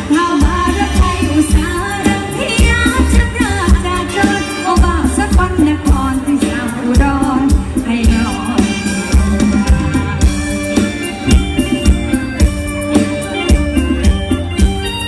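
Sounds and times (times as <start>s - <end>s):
band music: 0.0s - 15.0s
steady drum beat: 0.0s - 15.0s.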